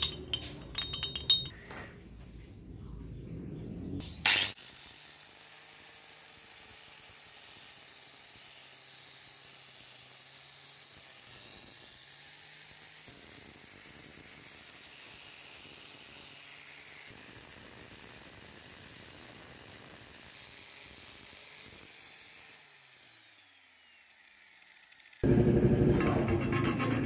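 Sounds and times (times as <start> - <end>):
angle grinder whining: 4.0 - 27.0.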